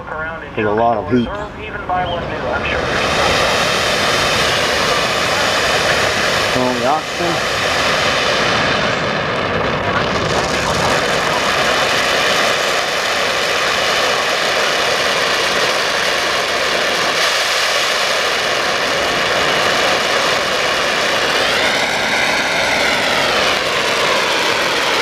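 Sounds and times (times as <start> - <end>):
torch flame hissing: 0.8 - 25.0
flame whistling tone: 1.0 - 25.0.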